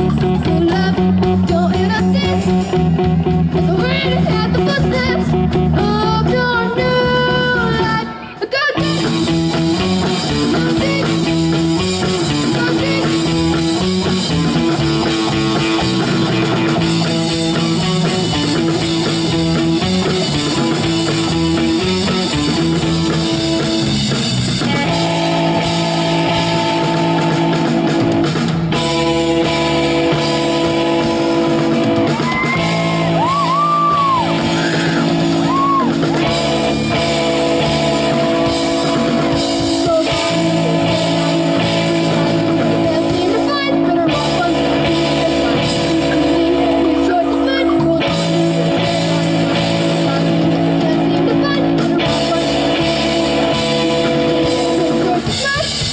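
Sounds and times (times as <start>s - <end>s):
drum kit: 0.0s - 8.1s, 8.8s - 55.9s
electric bass: 0.0s - 55.9s
electric guitar riff: 0.0s - 55.9s.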